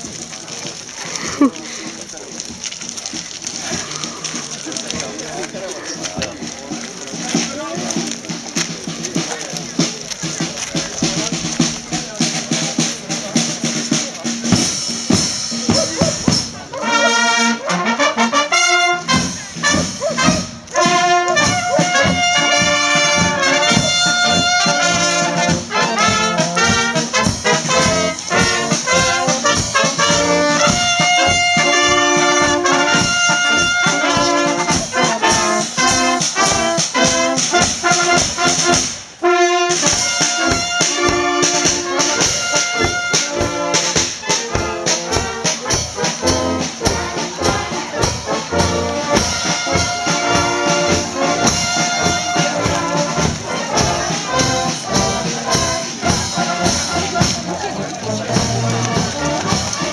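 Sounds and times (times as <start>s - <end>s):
brass band playing a march: 0.0s - 59.9s.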